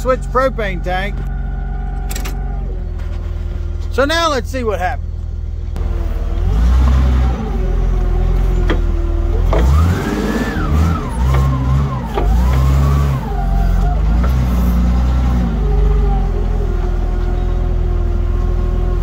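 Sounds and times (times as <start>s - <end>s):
forklift engine revving: 0.0s - 4.0s, 5.0s - 19.0s.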